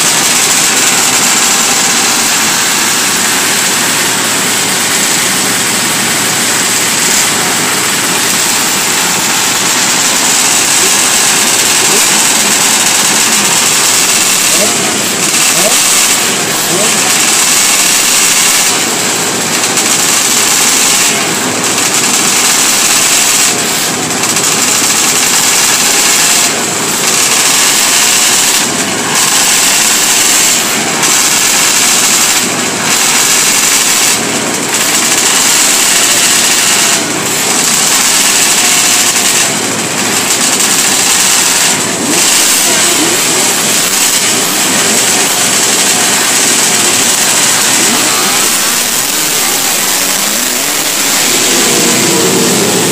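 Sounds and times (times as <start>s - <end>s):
motorcycles revving: 0.0s - 52.9s.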